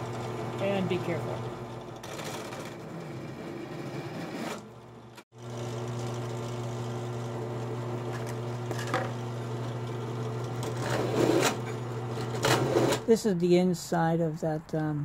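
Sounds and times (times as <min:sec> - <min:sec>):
drill press motor humming: 0:00.0 - 0:13.0.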